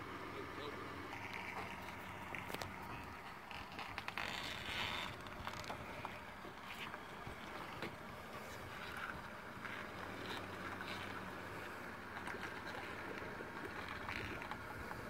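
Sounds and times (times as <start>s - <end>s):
vehicle engine at low revs: 0.0s - 15.0s.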